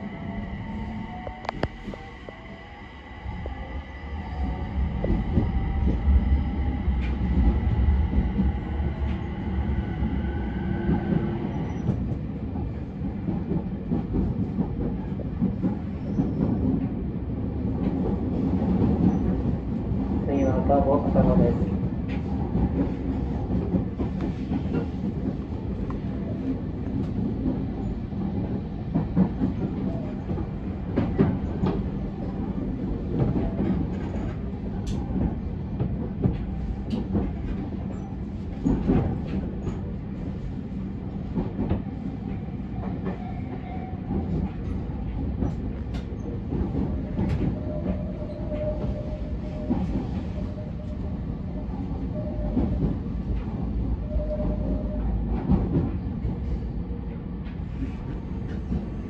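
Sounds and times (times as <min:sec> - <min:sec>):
rumble of wheels on rail: 0:00.0 - 0:59.0
rail-joint clicks and clatter: 0:04.7 - 0:59.0.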